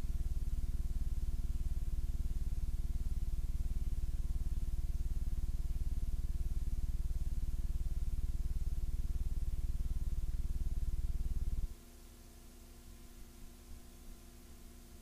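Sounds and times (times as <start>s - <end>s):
low electrical mains hum: 0.0s - 15.0s.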